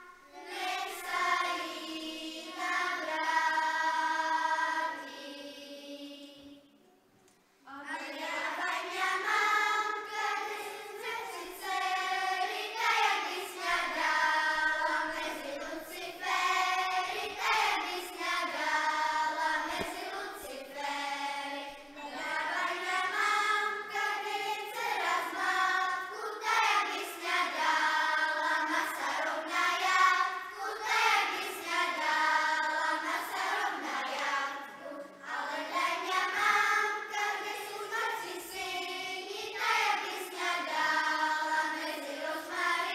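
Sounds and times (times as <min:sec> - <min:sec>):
children's choir singing: 0:00.0 - 0:06.9, 0:07.6 - 0:42.9.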